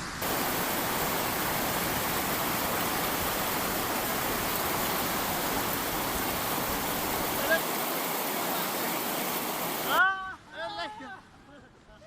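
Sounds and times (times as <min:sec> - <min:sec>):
flood water rushing: 0:00.0 - 0:10.1.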